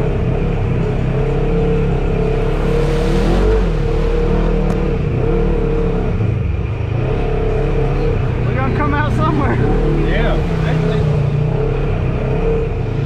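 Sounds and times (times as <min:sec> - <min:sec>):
turbocharged engine running: 0:00.0 - 0:13.0.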